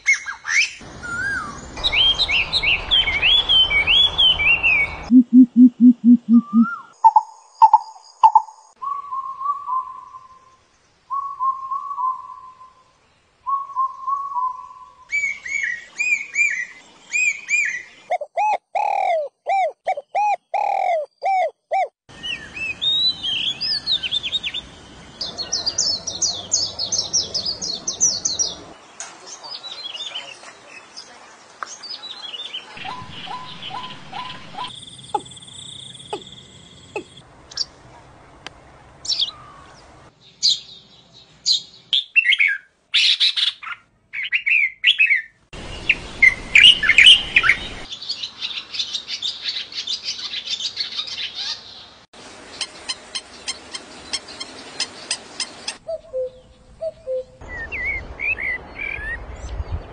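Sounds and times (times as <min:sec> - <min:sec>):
birds singing and calling: 0:00.0 - 0:37.8, 0:39.0 - 0:59.9.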